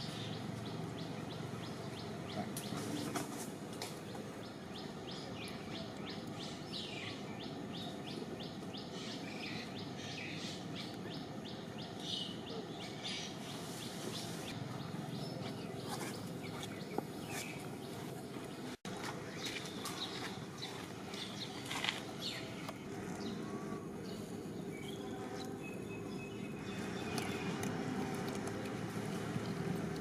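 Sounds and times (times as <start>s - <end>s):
steady background noise: 0.0s - 30.0s
bird chirping: 4.0s - 29.7s.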